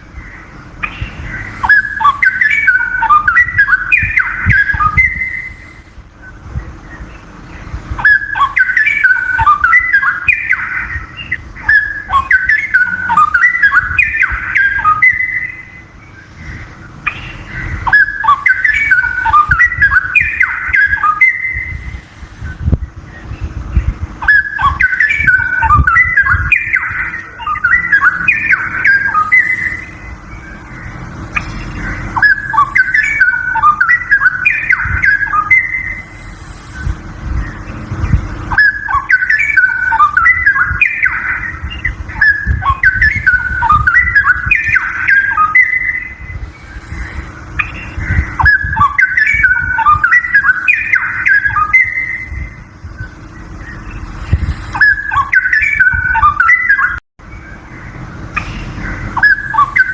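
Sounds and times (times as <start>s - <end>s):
steady low rumble: 0.0s - 59.9s
bird singing whistled phrases: 0.3s - 59.9s.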